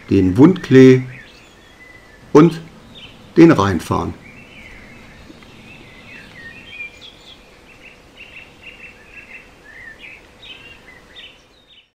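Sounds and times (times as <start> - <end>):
faint birdsong: 0.0 - 11.9.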